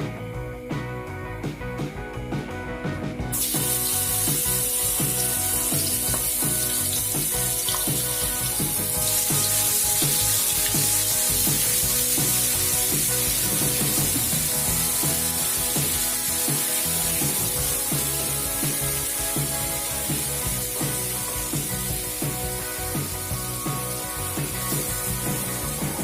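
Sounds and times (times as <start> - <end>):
background music: 0.0 - 26.0
fish sizzling in hot oil: 3.3 - 26.0.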